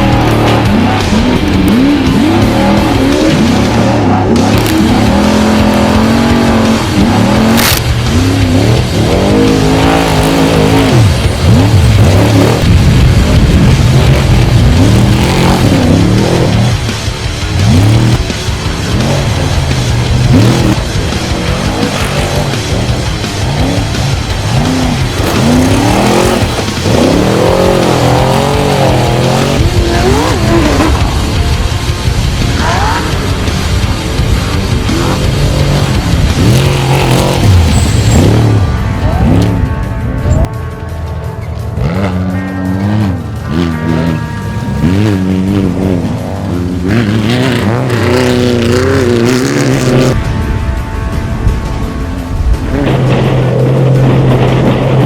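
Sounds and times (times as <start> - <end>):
background music: 0.0 - 55.0
race vehicle engines revving: 0.0 - 55.0.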